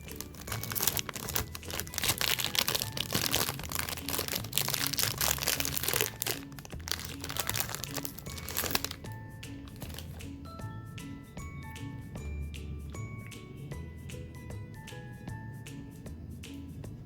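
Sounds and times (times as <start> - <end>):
background music with bass line: 0.0 - 17.0
crunching cookies and snack cakes: 0.0 - 17.0.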